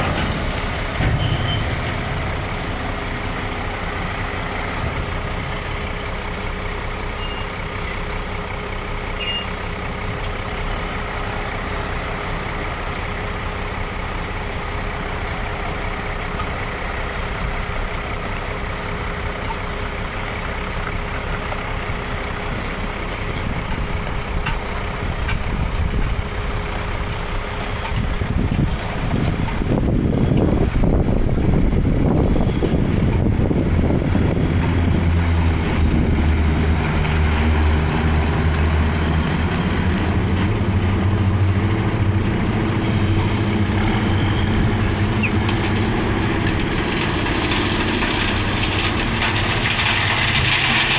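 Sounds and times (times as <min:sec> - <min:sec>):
heavy engine droning: 0:00.0 - 0:50.9.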